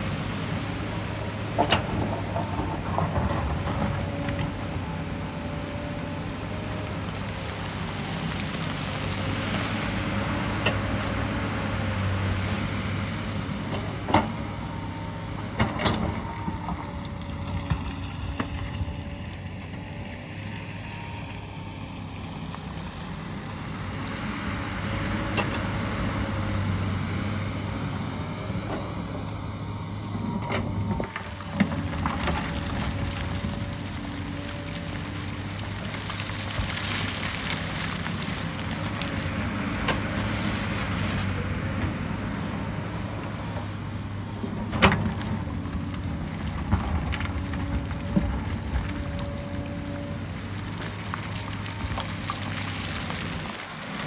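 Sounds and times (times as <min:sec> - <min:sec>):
excavator diesel engine whining: 0:00.0 - 0:54.0.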